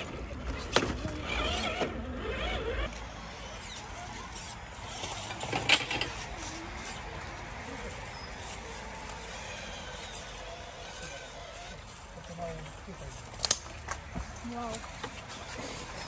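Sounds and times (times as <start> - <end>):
small electric motor whirring: 0.0 - 13.6.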